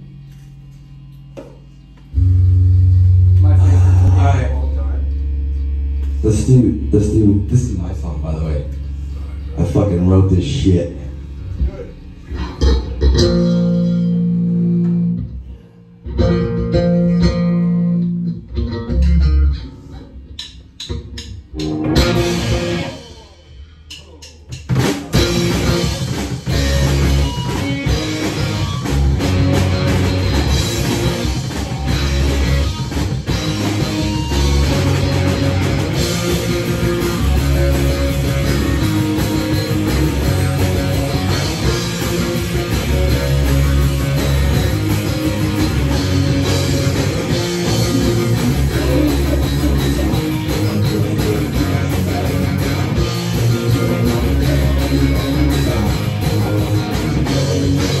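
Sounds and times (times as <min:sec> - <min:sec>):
electric guitar ringing notes: 0:00.0 - 0:23.6, 0:25.1 - 0:58.0
rock band playing: 0:01.4 - 0:58.0.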